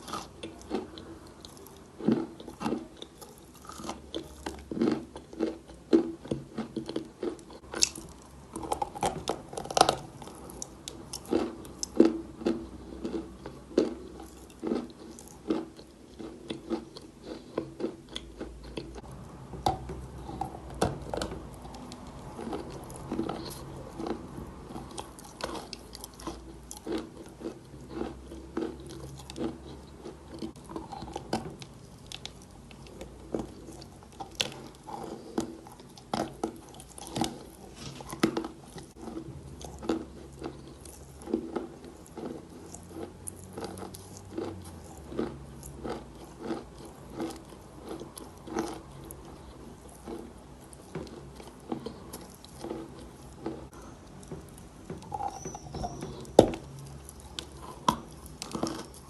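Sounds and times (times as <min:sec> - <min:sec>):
chalk crunching while chewed: 0:00.0 - 0:59.0.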